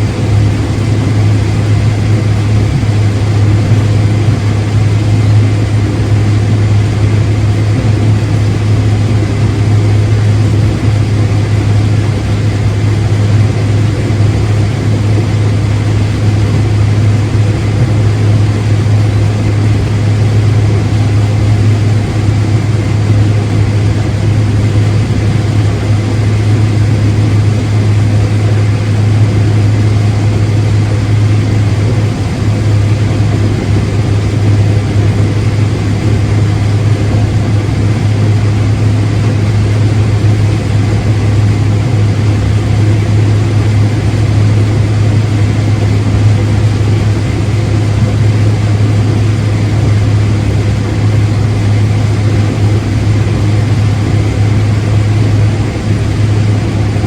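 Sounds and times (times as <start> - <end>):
diesel engine humming: 0.0 - 57.0.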